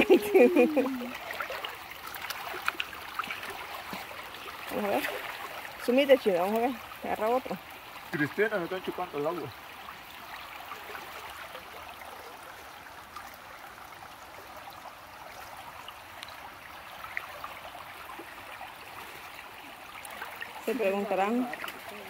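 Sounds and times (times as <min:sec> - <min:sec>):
stream water babbling over stones: 0:00.0 - 0:22.0.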